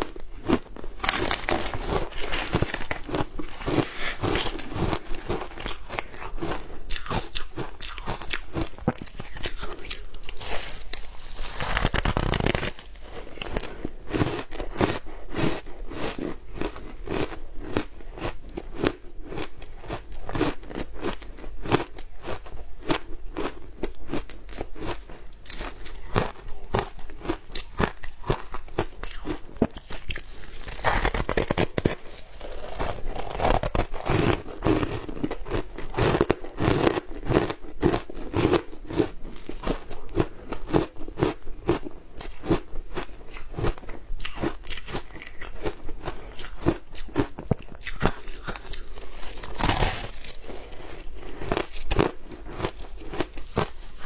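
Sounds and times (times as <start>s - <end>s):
chewing crunchy shaved ice: 0.0s - 54.0s.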